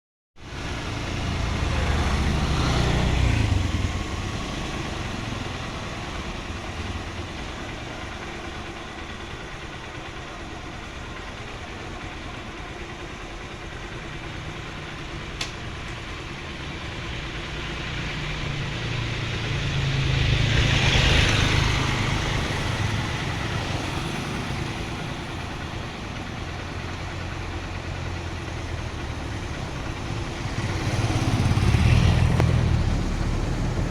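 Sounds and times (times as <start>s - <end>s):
motor vehicle engines running: 0.4s - 33.9s.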